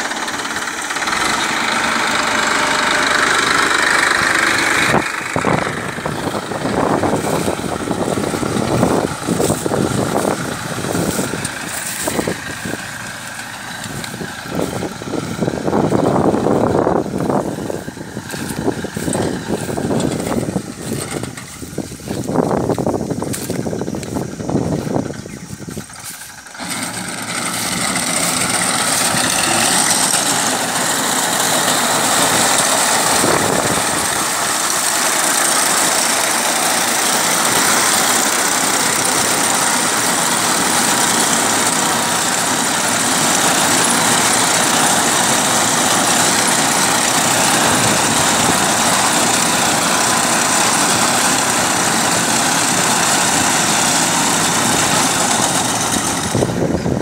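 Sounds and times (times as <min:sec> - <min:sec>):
reaper cutting grass: 0:00.0 - 0:57.0
tractor diesel engine running: 0:00.0 - 0:57.0.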